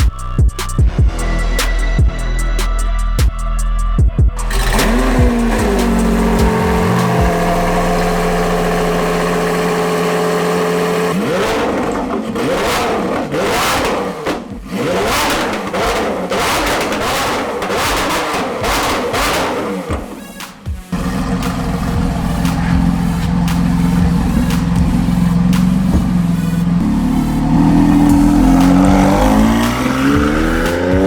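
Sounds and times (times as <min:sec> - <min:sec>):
car engine revving: 0:04.4 - 0:31.0.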